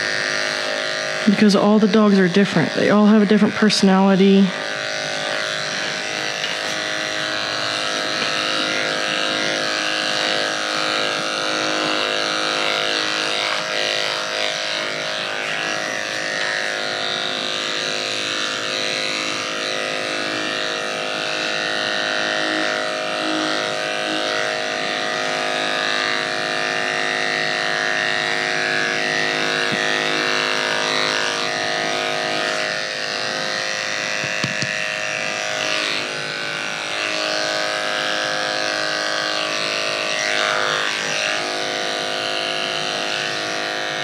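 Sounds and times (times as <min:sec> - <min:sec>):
electric clippers humming: 0:00.0 - 0:44.0.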